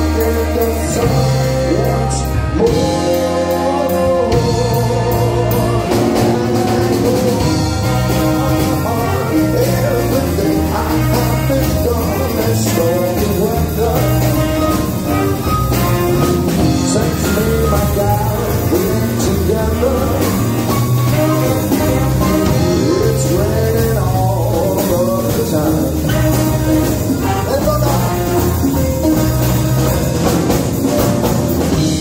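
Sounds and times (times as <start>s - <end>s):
big band playing jazz: 0.0s - 32.0s.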